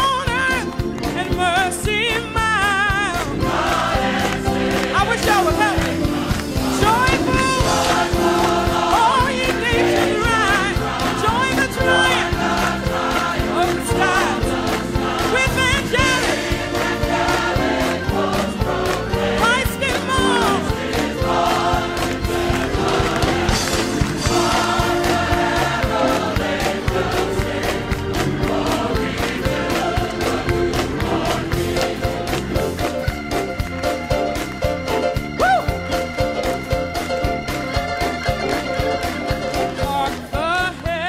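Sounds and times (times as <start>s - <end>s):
choir singing with accompaniment: 2.9s - 40.4s.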